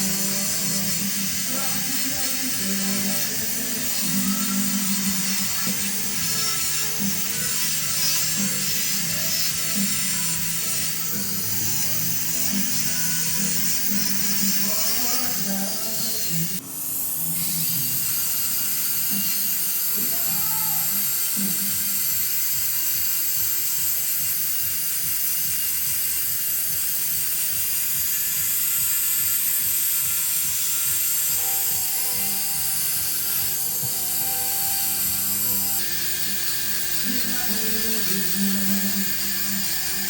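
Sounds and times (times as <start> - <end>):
dental drill whining: 0.0 - 40.0
faint background music: 0.0 - 40.0.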